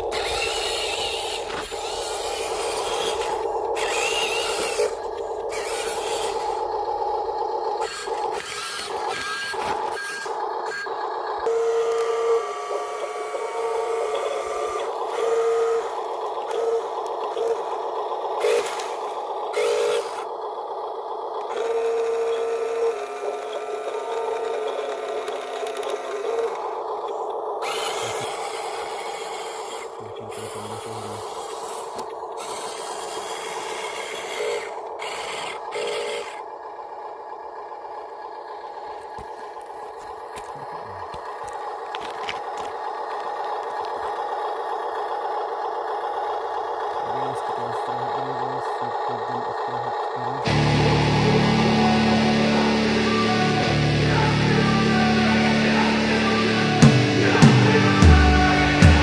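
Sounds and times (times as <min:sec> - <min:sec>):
small electric motors whining: 0:00.0 - 0:58.1.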